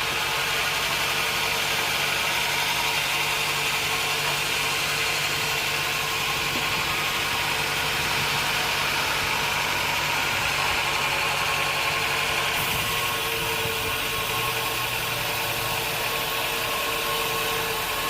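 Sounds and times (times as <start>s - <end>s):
sawmill machinery humming: 0.0s - 18.0s.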